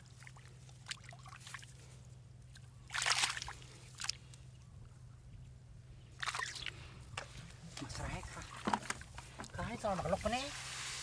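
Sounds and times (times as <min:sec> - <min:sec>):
shallow water sloshing and splashing: 0:00.0 - 0:04.5, 0:06.2 - 0:11.0
low steady hum: 0:00.0 - 0:11.0.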